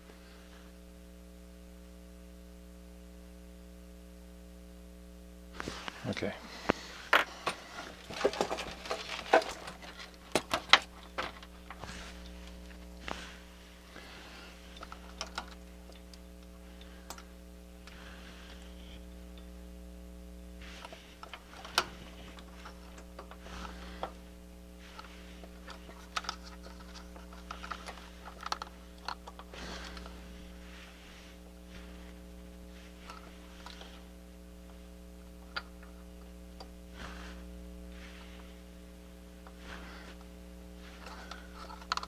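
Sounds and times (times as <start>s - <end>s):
low electrical hum: 0.0s - 42.0s.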